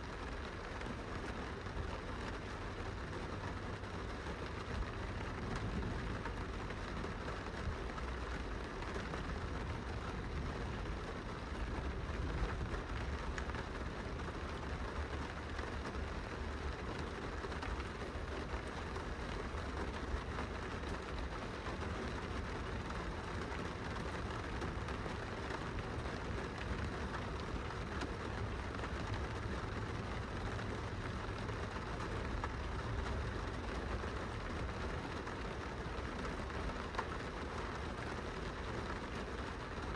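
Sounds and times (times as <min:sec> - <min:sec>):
rain pattering on glass: 0:00.0 - 0:39.9.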